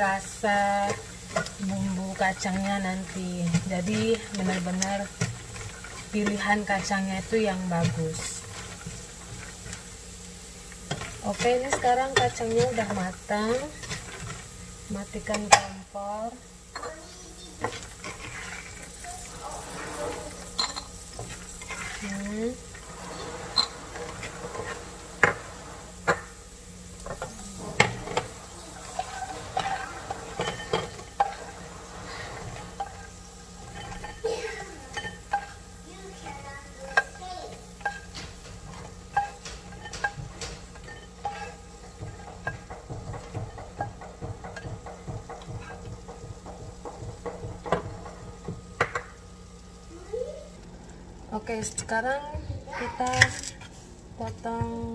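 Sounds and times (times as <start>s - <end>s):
spatula scraping frying pan: 0.0s - 49.2s.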